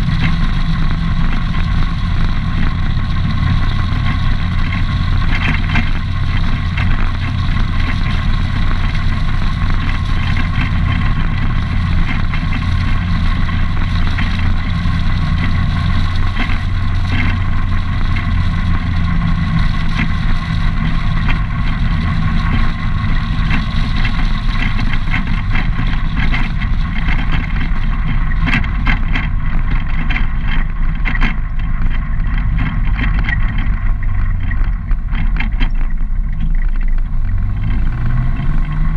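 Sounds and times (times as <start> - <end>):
atv engine running: 0.0 - 38.9
tyres on gravel: 0.0 - 38.9
scattered clicks: 0.1 - 38.8.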